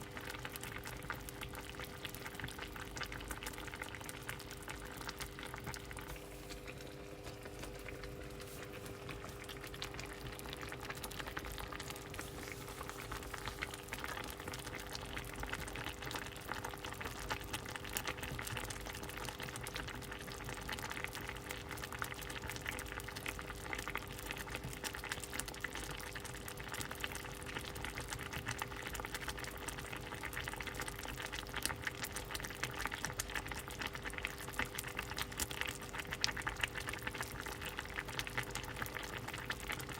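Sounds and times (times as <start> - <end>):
soup boiling and bubbling: 0.0 - 39.9.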